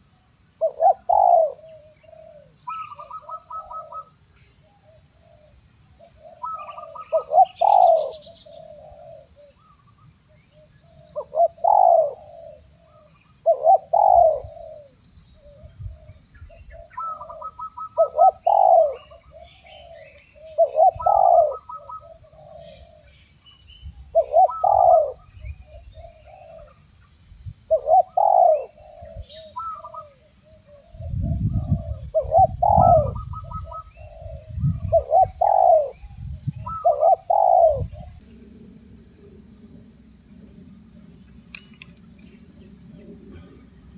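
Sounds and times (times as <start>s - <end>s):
dove cooing: 0.6s - 26.8s, 27.7s - 38.5s, 41.8s - 43.9s.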